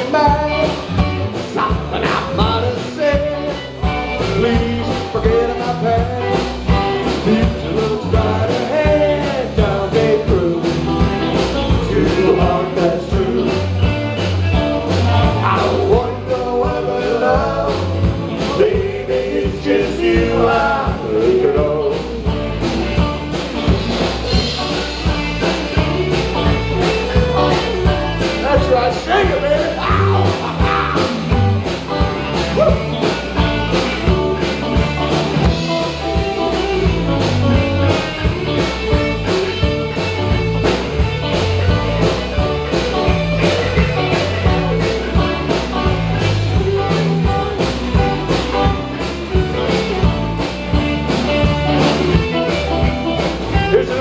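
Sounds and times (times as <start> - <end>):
bass line: 0.0 - 54.0
rock and roll band playing: 0.0 - 54.0
steady drumbeat: 0.0 - 54.0.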